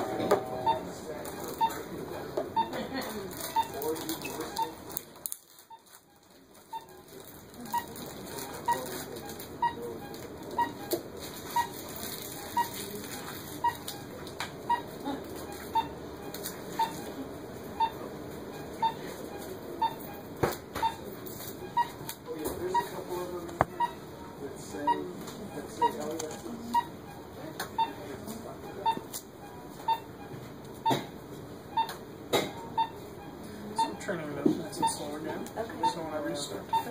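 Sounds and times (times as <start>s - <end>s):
medical monitor beeps: 0.0s - 5.0s, 5.6s - 36.9s
low room noise murmur: 0.0s - 36.9s.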